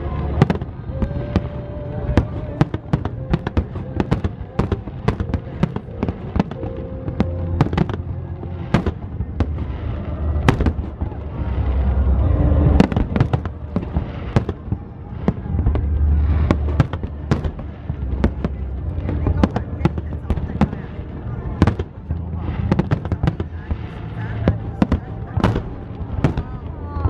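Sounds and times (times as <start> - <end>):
fireworks bangs and crackles: 0.0 - 27.0
low rumble: 0.0 - 27.0.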